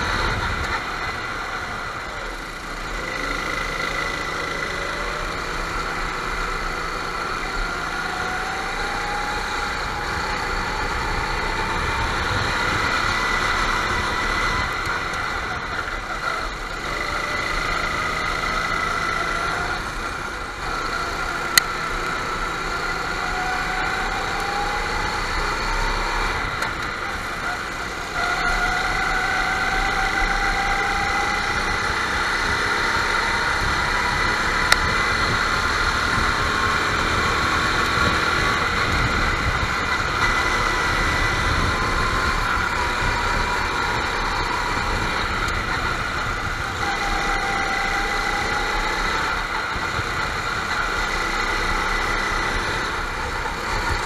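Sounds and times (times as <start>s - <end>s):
go-kart engines revving: 0.0s - 54.0s.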